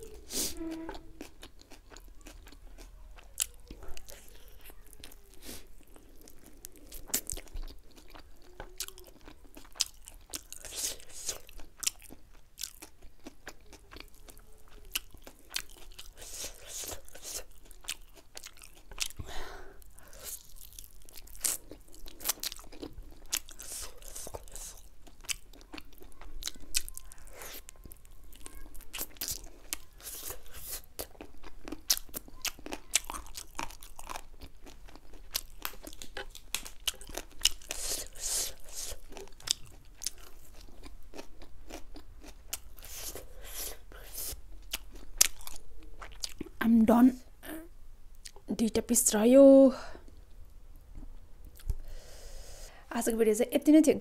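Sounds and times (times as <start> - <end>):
chewing with sharp crunches: 0.0 - 46.6.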